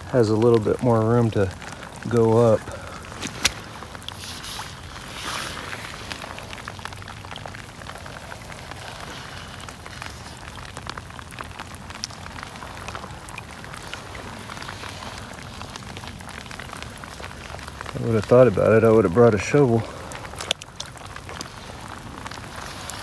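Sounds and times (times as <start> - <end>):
rain falling on water and mud: 0.0 - 23.0.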